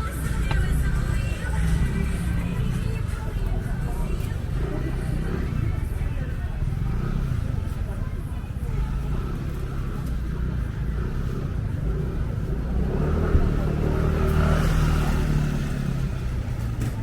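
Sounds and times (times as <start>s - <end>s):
low traffic rumble: 0.0s - 17.0s
vehicle engine passing close: 0.6s - 17.0s.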